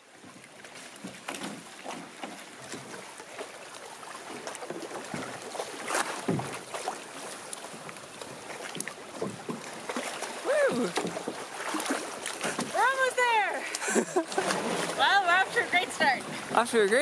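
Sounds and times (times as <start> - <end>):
small waves lapping: 0.0 - 17.0
canoe knocks and splashes: 0.2 - 17.0.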